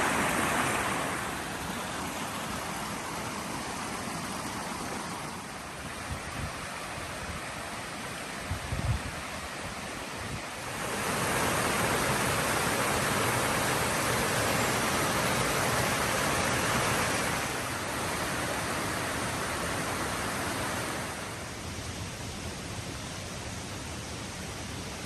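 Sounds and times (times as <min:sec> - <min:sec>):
creek rushing over stones: 0:00.0 - 0:25.0.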